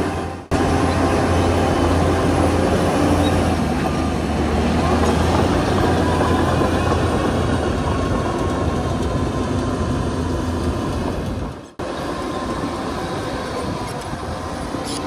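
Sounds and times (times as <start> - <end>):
diesel engine running: 0.0 - 15.0
steel tracks clattering: 0.0 - 15.0.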